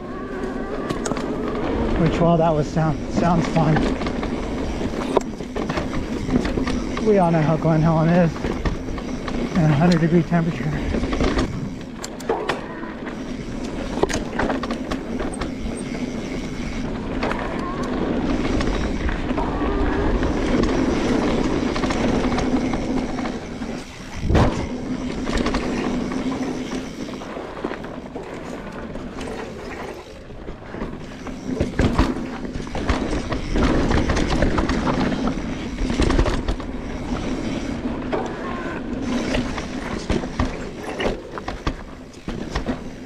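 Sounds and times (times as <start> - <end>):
bike tyres rolling on dirt: 0.0 - 43.0
bike hard jolt: 0.4 - 43.0.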